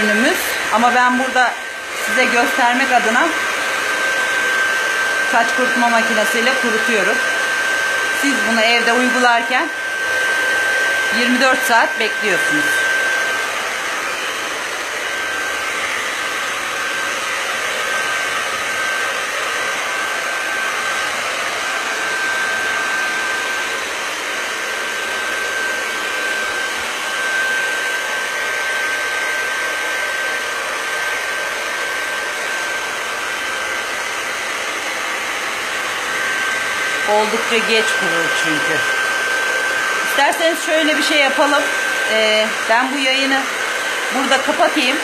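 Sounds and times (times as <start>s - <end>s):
hair dryer blowing: 0.0s - 45.0s.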